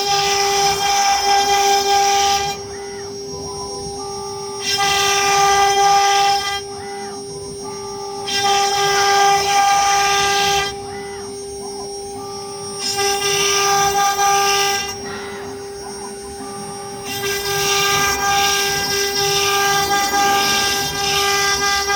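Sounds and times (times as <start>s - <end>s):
wood router spindle whining: 0.0s - 21.9s.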